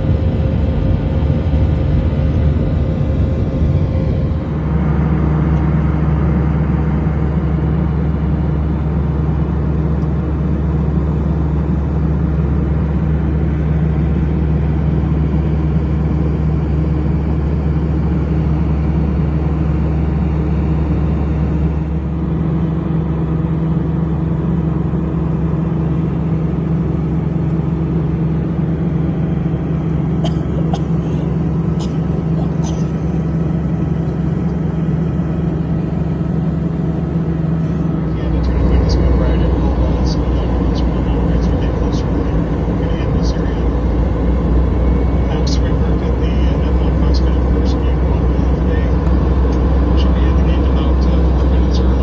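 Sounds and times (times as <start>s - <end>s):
airliner engine drone in cabin: 0.0s - 52.0s.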